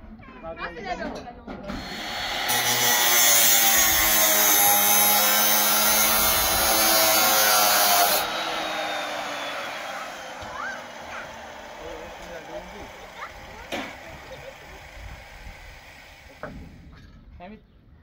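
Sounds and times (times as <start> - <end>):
harsh rasping cutting noise: 1.8 - 16.5
power tool motor whine: 1.8 - 16.8.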